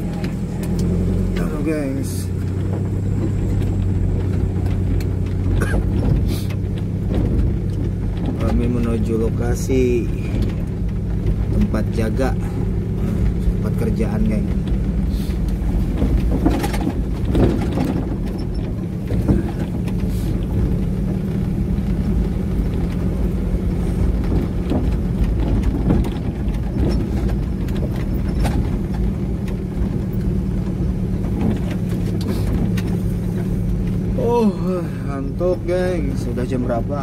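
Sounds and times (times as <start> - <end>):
truck engine running: 0.0 - 37.0
truck knocks and rattles over bumps: 0.0 - 37.0.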